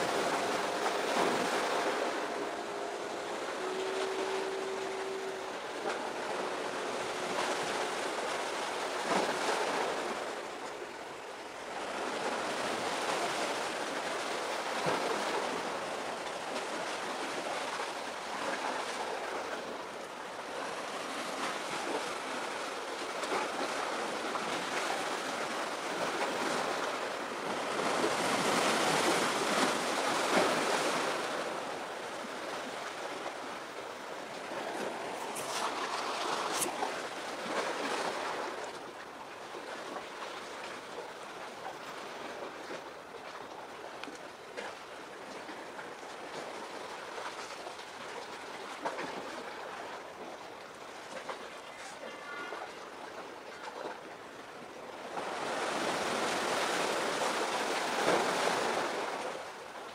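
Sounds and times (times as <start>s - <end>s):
sea surf: 0.0s - 59.9s
wind: 0.0s - 59.9s.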